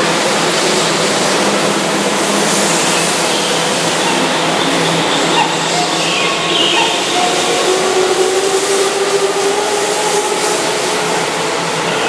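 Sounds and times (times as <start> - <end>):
electric train running past: 0.0 - 12.0.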